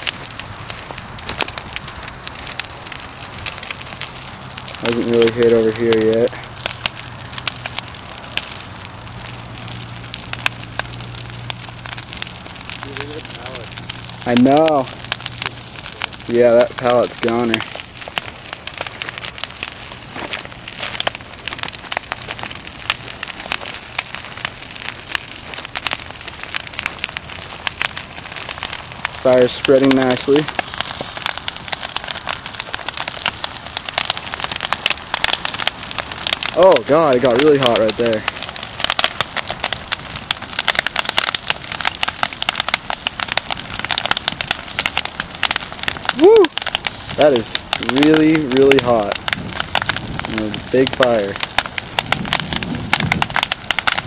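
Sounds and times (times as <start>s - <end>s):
bonfire crackling and popping: 0.0s - 54.0s
rush of flame: 0.0s - 54.0s.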